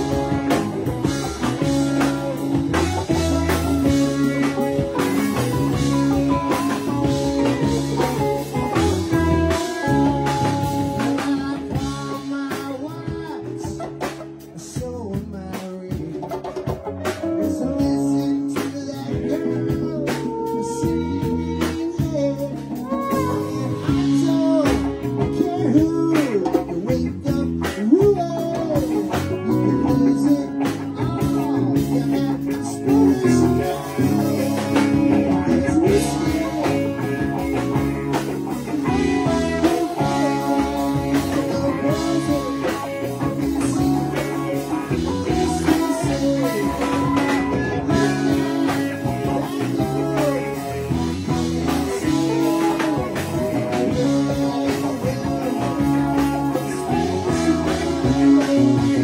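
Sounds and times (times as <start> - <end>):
bass guitar: 0.0 - 59.0
drums: 0.0 - 59.0
electric guitars: 0.0 - 59.0
keyboard: 0.0 - 59.0.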